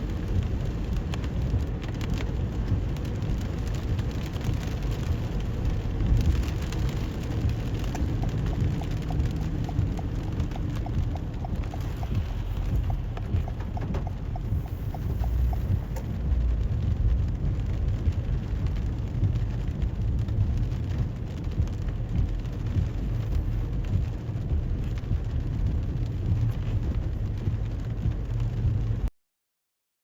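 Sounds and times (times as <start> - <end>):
car road and engine rumble: 0.0 - 29.1
rain and tyre spray hiss: 0.0 - 29.1
raindrop ticks: 0.0 - 29.1.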